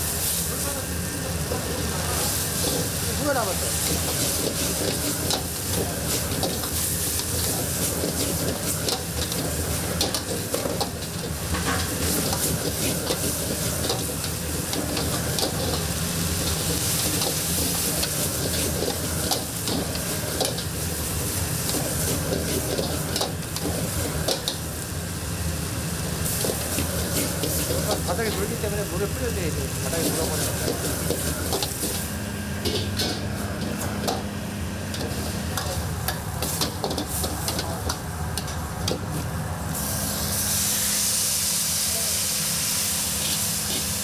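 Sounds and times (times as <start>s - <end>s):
food sizzling in a wok: 0.0s - 44.0s.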